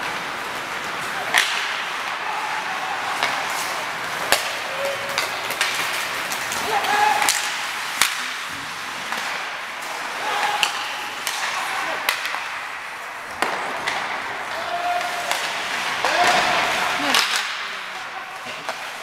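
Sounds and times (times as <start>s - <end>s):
hockey sticks and puck clacking: 0.0s - 19.0s
skates scraping on ice: 0.0s - 19.0s.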